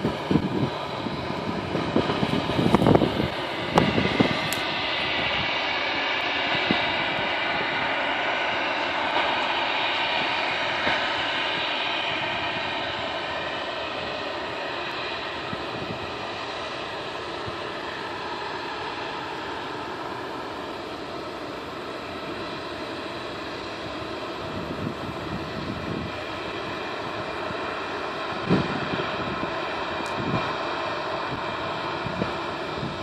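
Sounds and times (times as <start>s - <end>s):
wind buffeting microphone: 0.0s - 18.3s, 22.0s - 33.0s
jet engines whining: 0.0s - 33.0s.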